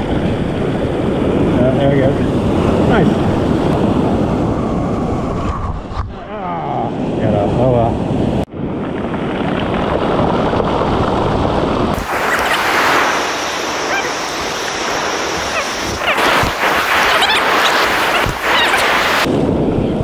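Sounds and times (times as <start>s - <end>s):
ocean surf breaking: 0.0s - 5.5s, 6.2s - 19.8s
wind on microphone: 0.0s - 20.0s.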